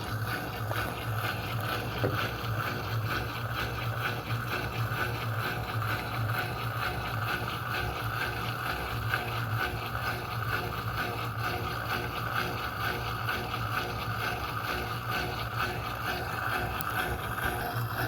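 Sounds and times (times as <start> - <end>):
washing machine motor hum: 0.0 - 18.0
water churning in tub: 0.0 - 18.0.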